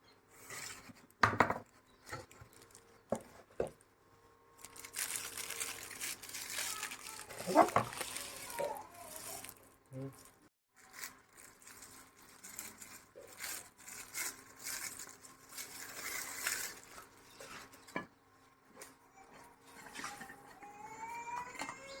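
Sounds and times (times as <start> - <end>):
rustling and handling noises: 0.3 - 22.0.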